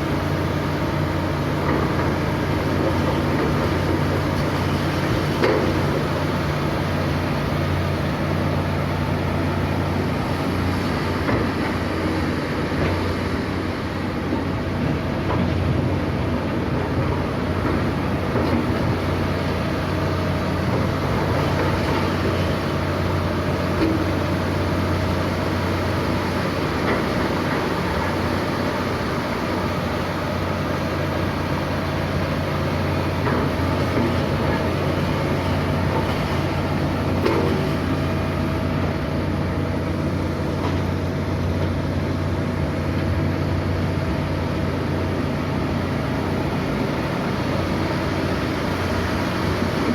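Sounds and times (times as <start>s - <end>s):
heavy diesel machinery running: 0.0s - 49.9s.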